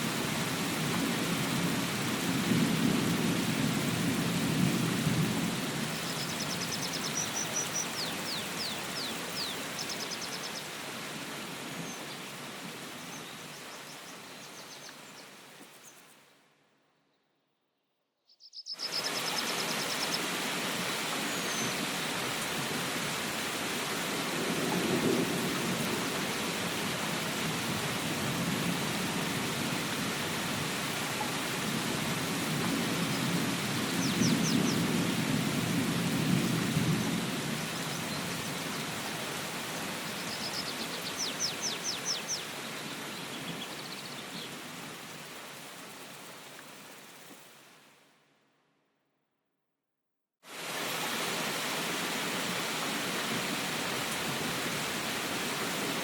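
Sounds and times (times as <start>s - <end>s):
rain hiss: 0.0s - 16.4s, 18.5s - 48.2s, 50.5s - 56.0s.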